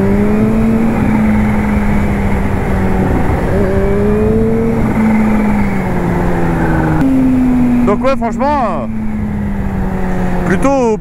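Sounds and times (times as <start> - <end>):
loud wind noise: 0.0 - 11.0
motorcycle engine running: 0.0 - 11.0.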